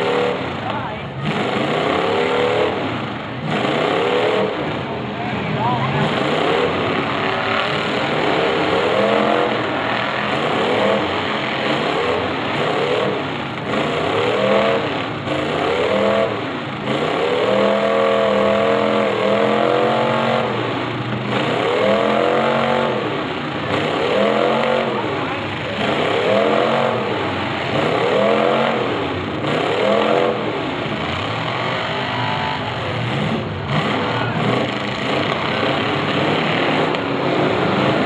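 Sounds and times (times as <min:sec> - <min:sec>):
car engines revving: 0:00.0 - 0:38.0
din of engines running: 0:00.0 - 0:38.0.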